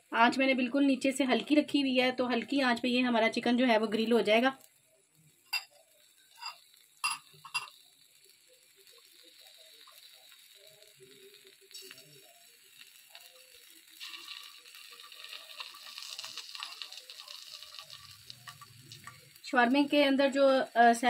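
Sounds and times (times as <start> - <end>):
chicken sizzling: 0.0 - 21.0.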